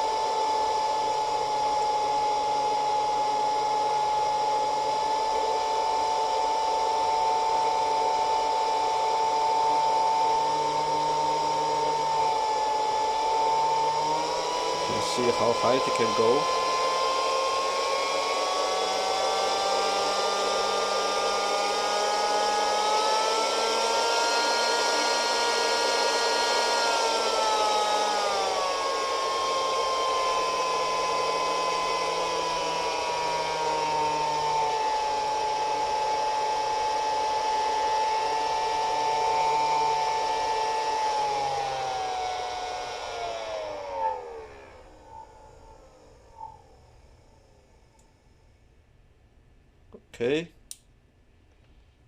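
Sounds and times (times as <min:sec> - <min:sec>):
electric air pump whining: 0:00.0 - 0:48.6.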